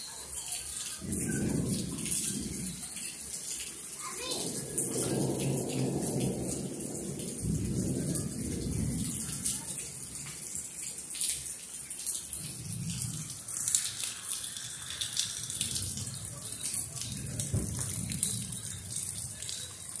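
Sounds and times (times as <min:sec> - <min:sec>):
heavy rain pouring: 0:00.0 - 0:20.0
rain splashing on flooded ground: 0:00.0 - 0:20.0.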